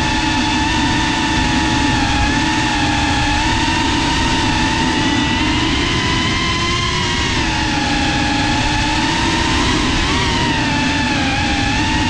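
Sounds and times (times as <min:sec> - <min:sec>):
drone motors whining: 0:00.0 - 0:12.0
wind and prop wash rumble: 0:00.0 - 0:12.0.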